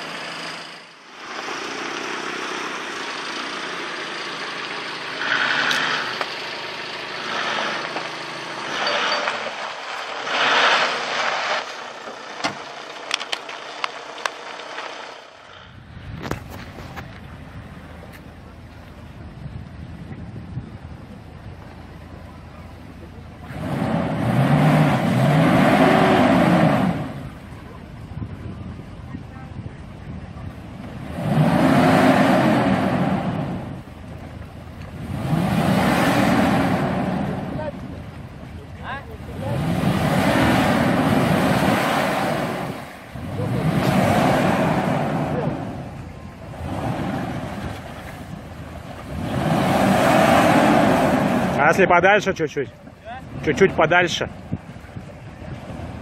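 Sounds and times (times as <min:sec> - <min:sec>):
car engine running: 0:00.0 - 0:56.0
wheels churning water: 0:00.0 - 0:56.0.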